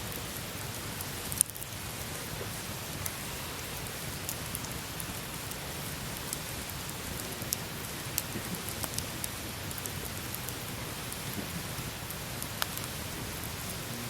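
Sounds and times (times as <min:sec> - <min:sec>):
campfire crackles and pops: 0:00.0 - 0:14.0
campfire hiss: 0:00.0 - 0:14.0.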